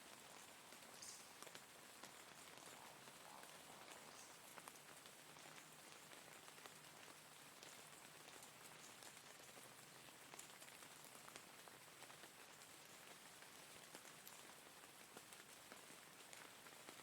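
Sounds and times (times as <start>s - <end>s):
faint steady rain: 0.0s - 17.0s
raindrops ticking: 0.1s - 17.0s.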